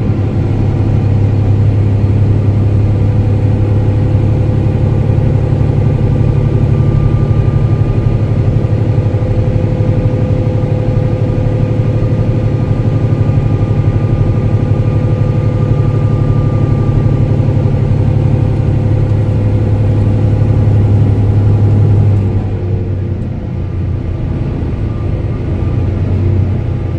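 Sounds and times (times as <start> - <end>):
diesel bus engine running: 0.0 - 26.9.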